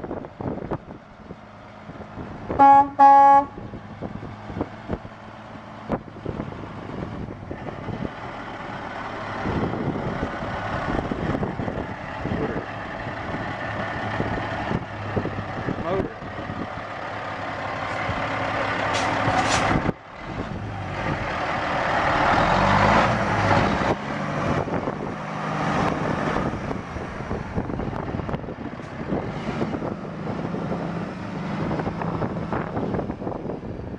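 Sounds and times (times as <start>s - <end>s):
truck diesel engine under load: 0.0s - 33.9s.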